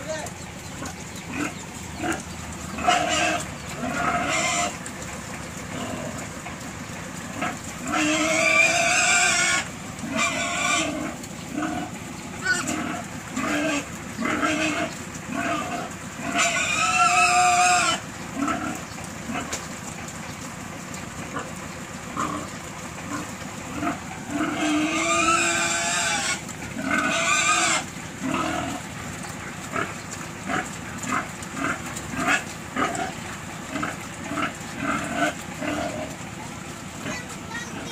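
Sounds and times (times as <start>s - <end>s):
pigs squealing: 0.0s - 20.1s, 20.8s - 37.9s
pigs grunting: 0.0s - 37.9s.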